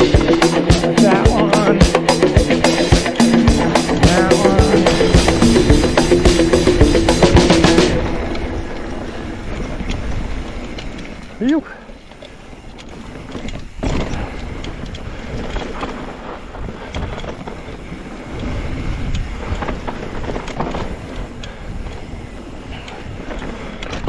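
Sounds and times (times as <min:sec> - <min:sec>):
bike tyre noise: 0:00.0 - 0:24.0
wind rushing over microphone: 0:00.0 - 0:24.0
bike clicks and rattles: 0:04.6 - 0:24.0.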